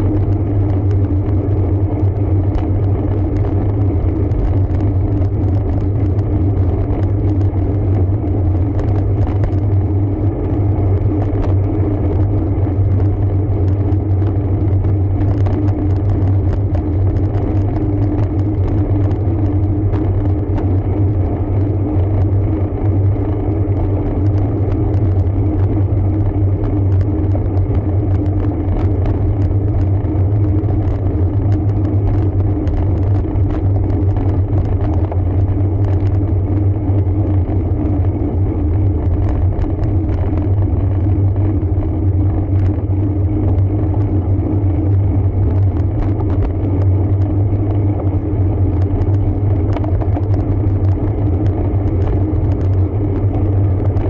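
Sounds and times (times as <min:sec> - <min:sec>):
bike tyre and road noise: 0:00.0 - 0:54.0
wind on microphone: 0:00.0 - 0:54.0.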